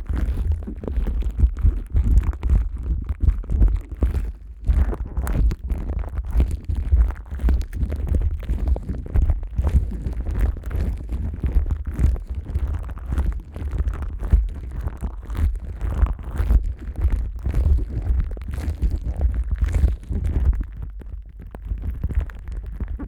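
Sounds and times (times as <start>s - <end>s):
plastic wrap rubbed on microphone: 0.0s - 23.0s.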